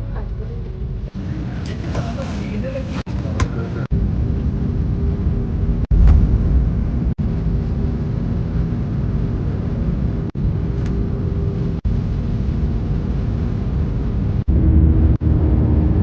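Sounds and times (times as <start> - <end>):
faint steady hum: 0.0 - 16.0
jet engine noise in cabin: 0.0 - 16.0.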